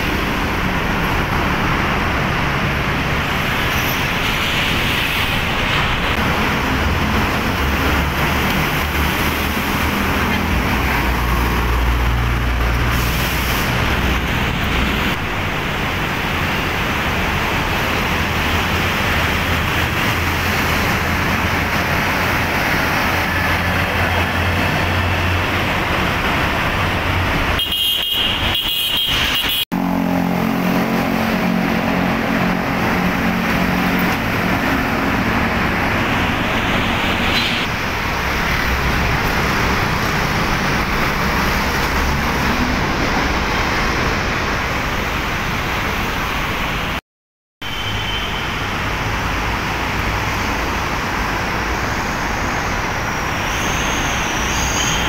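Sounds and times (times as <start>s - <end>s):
street traffic passing: 0.0s - 47.0s, 47.6s - 55.0s.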